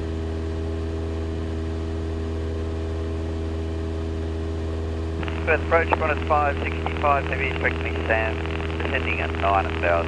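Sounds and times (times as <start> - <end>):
light aircraft engine droning: 0.0 - 10.0.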